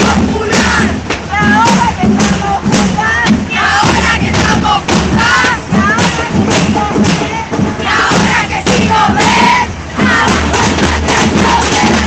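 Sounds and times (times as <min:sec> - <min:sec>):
drums beating: 0:00.0 - 0:12.0
women chanting together: 0:00.0 - 0:12.0.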